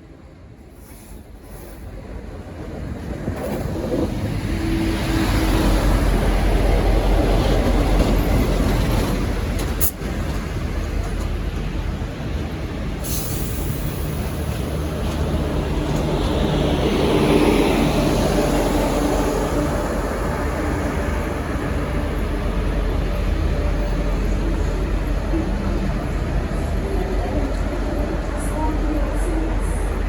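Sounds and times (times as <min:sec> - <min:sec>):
locomotive low rumble: 0:02.8 - 0:30.0.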